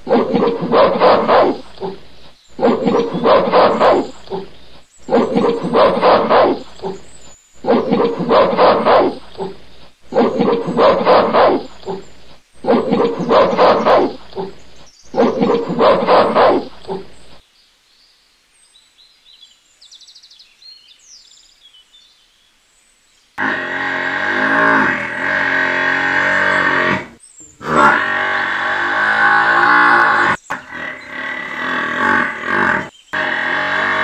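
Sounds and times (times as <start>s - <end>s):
recorded animal call: 0.0s - 17.4s, 23.4s - 34.0s.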